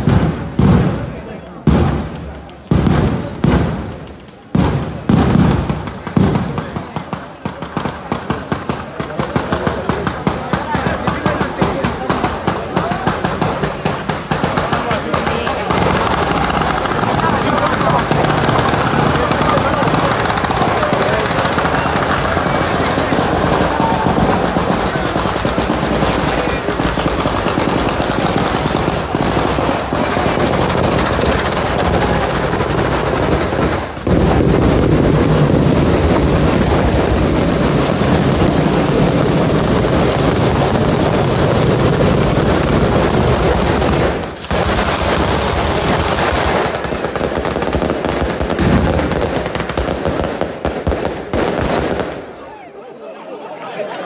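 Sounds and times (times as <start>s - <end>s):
firecrackers banging rapidly: 0.0s - 52.4s.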